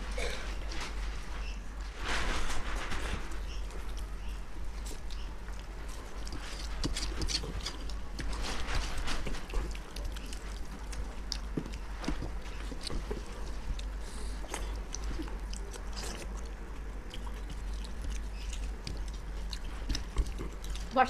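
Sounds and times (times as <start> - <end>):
steady low hum: 0.0 - 21.0
people chewing and biting: 2.9 - 21.0.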